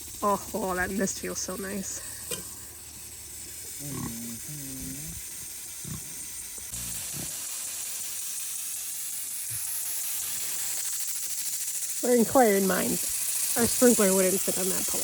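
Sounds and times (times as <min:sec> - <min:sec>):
water sprinkler hissing: 0:00.0 - 0:15.0.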